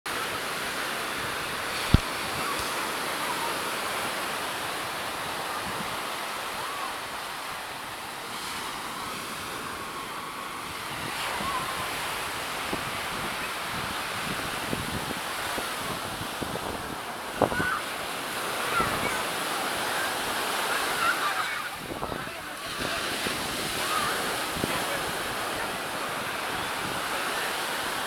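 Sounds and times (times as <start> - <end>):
waves breaking on beach: 0.1 - 28.0.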